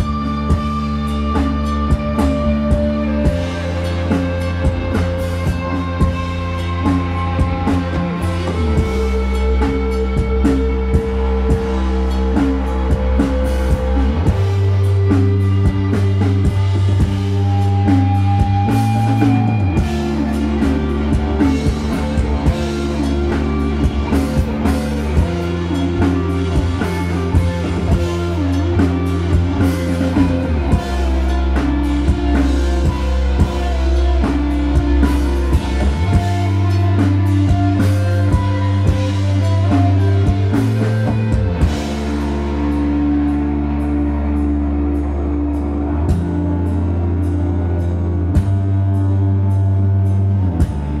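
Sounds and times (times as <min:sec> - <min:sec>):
long held bass notes: 0:00.0 - 0:51.0
rock band playing: 0:00.0 - 0:51.0.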